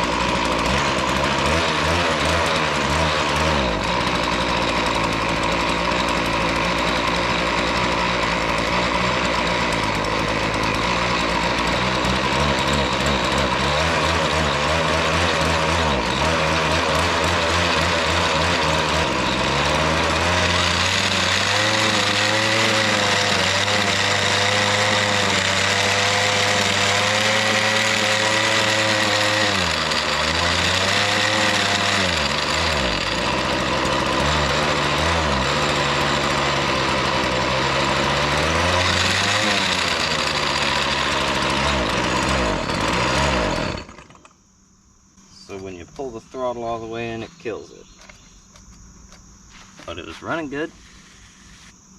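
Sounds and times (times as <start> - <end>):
small engine sagging and dying: 0.0 - 44.4.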